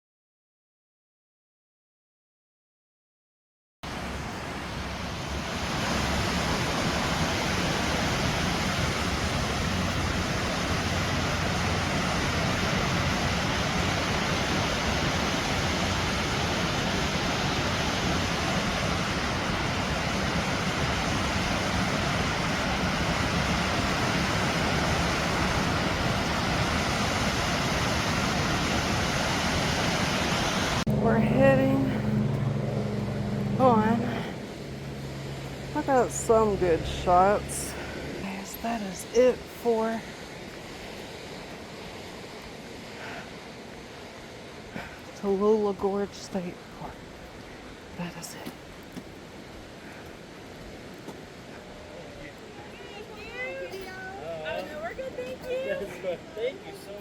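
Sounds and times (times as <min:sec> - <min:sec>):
waterfall rushing: 0:03.9 - 0:57.0.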